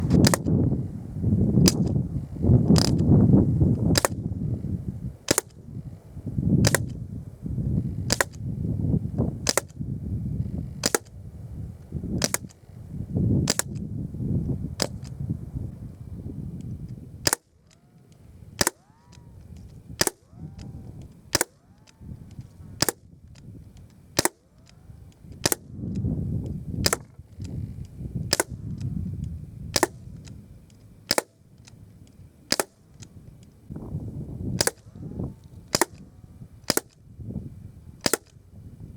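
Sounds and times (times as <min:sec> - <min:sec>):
air gun shots cracking: 0:00.0 - 0:15.3, 0:15.9 - 0:37.3, 0:38.0 - 0:38.6.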